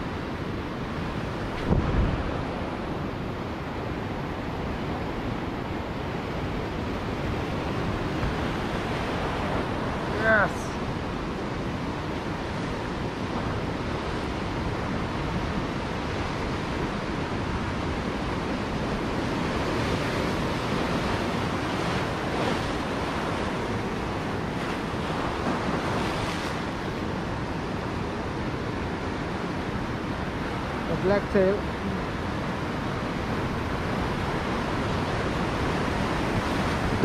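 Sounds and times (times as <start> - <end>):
surf breaking over rocks: 0.0 - 37.0.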